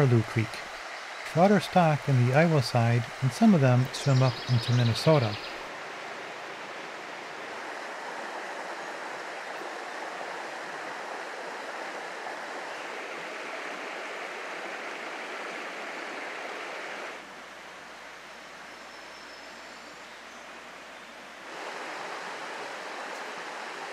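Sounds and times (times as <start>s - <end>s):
stream rushing over rocks: 0.0s - 18.9s, 20.4s - 23.9s.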